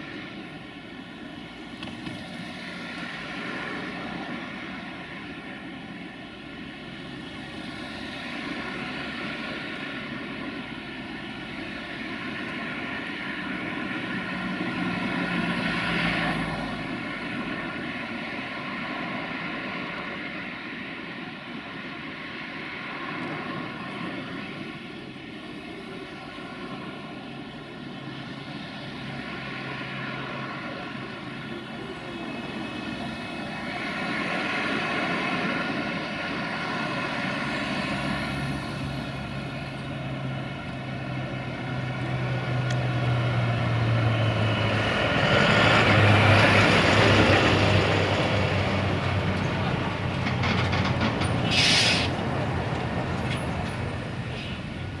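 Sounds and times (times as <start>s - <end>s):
diesel truck engine drone: 0.0s - 55.0s
road traffic passing: 0.0s - 55.0s.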